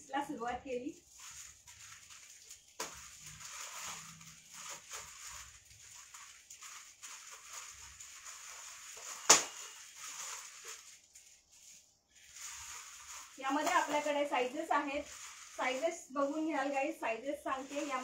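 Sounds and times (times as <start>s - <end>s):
plastic packaging crinkling: 0.5s - 18.0s.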